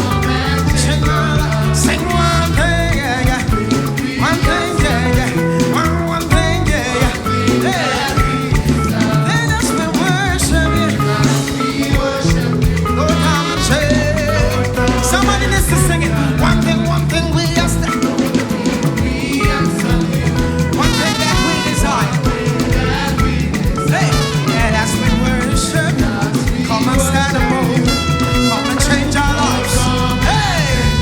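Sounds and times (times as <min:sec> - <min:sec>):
gospel band playing: 0:00.0 - 0:31.0
people singing: 0:00.0 - 0:31.0.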